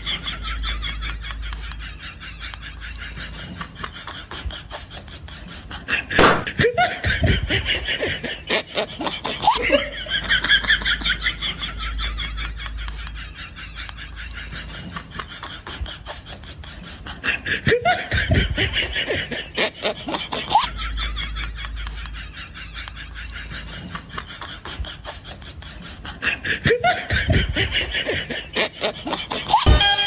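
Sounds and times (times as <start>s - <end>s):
laughter in bursts: 0.0s - 29.7s.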